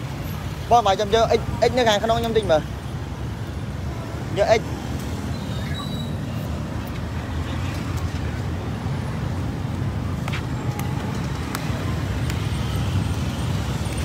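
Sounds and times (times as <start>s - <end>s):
scooters and cars passing: 0.0s - 14.0s.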